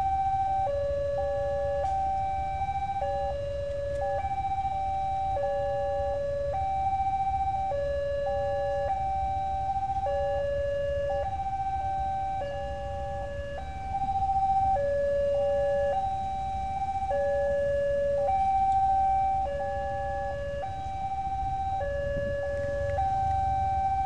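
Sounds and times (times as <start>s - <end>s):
two-tone crossing alarm: 0.0s - 24.0s.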